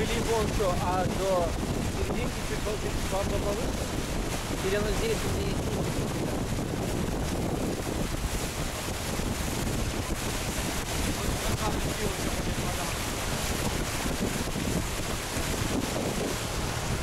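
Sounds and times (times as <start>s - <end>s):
water rushing past hull: 0.0s - 17.0s
wind rumble on microphone: 0.0s - 17.0s.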